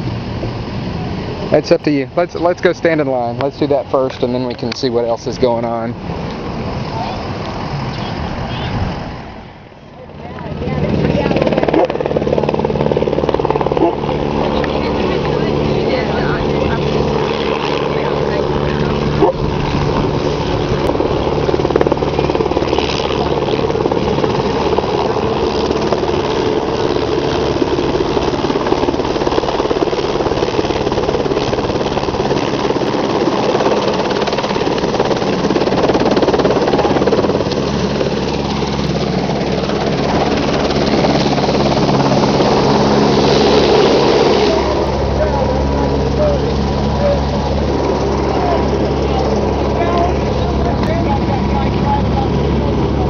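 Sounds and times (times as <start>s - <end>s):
helicopter engine and rotor chop: 0.0s - 53.0s.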